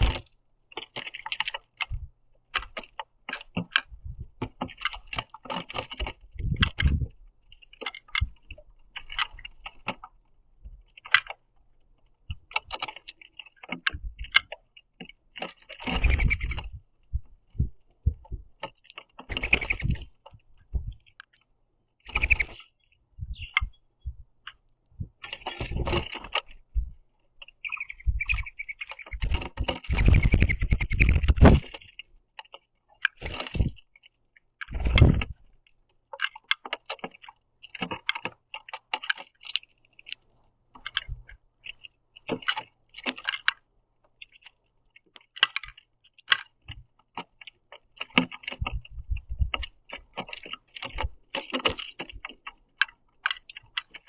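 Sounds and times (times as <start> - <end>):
beaks tapping on wood: 0.0 - 54.0.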